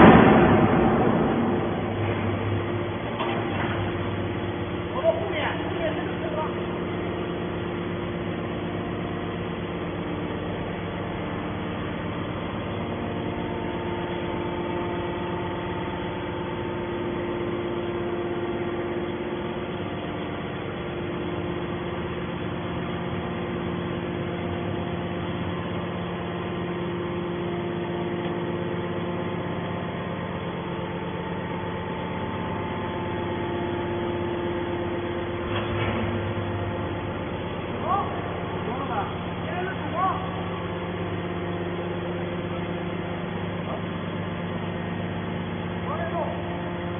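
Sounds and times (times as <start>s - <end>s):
hydraulic press humming: 0.0s - 46.9s.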